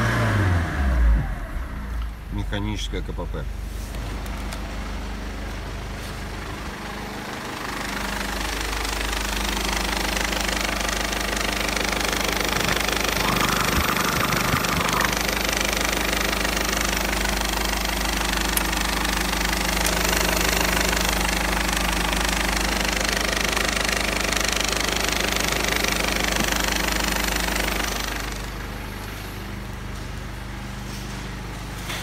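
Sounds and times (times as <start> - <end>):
diesel engine idling: 0.2 - 32.0.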